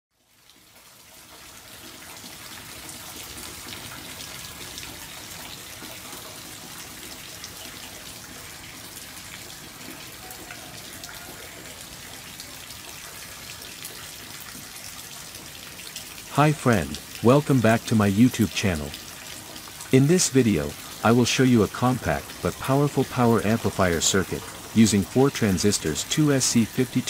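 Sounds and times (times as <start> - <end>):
steady rain falling: 0.3 - 27.0
water drips: 0.4 - 27.0.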